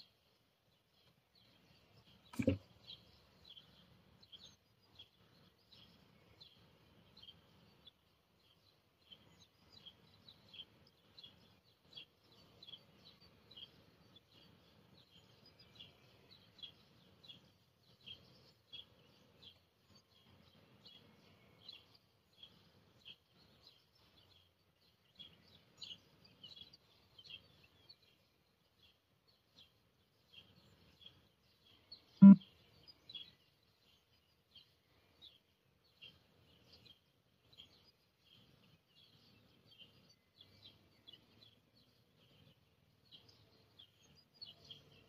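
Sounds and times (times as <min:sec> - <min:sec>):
faint bird chirping: 0:00.0 - 0:45.0.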